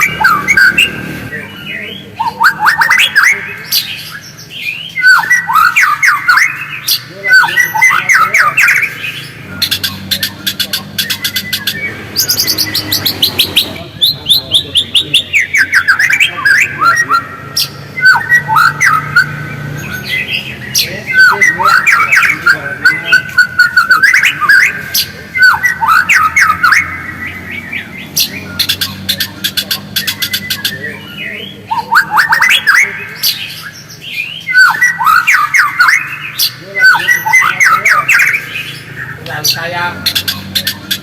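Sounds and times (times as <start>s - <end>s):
songbird singing: 0.0s - 41.0s.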